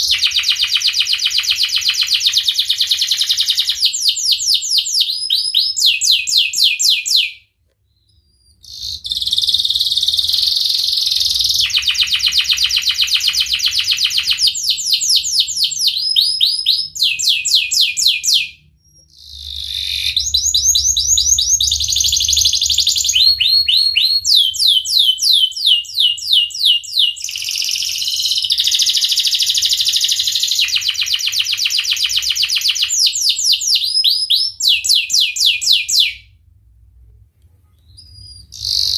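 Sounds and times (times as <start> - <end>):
canary singing trills: 0.0 - 36.2, 37.8 - 38.9.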